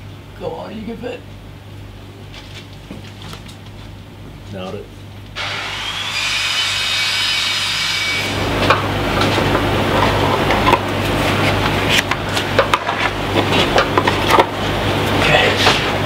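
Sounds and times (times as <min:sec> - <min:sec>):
steady whirring hiss: 0:00.0 - 0:16.0.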